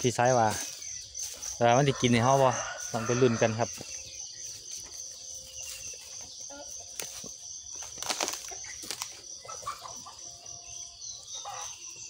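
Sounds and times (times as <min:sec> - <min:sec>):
footsteps on dry leaf litter: 0:00.0 - 0:11.9
high-pitched insect chorus: 0:00.0 - 0:12.0.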